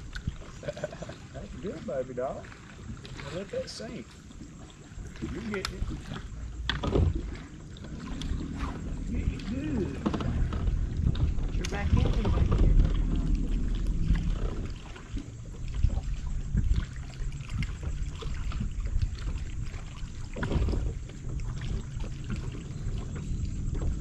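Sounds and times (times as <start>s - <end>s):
water splash: 0.0s - 24.0s
waves lapping against boat hull: 0.0s - 24.0s
steady low rumble: 4.4s - 24.0s.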